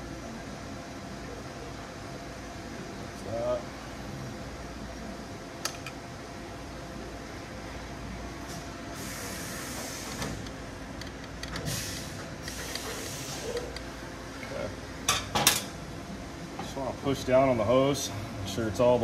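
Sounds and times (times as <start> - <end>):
shop fan humming: 0.0 - 19.0.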